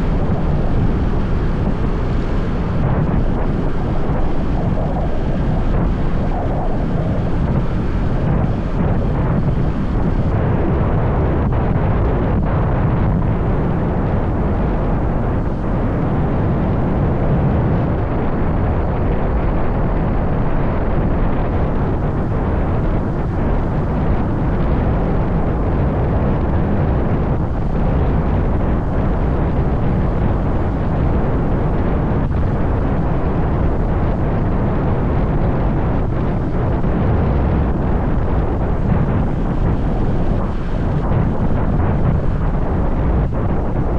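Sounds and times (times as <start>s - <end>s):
wind rumble on microphone: 0.0s - 43.9s.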